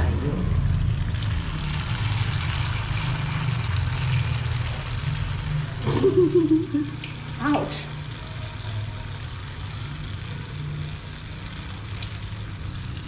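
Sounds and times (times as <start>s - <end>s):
batter sizzling in hot oil: 0.0s - 13.0s
low steady hum: 0.0s - 13.0s.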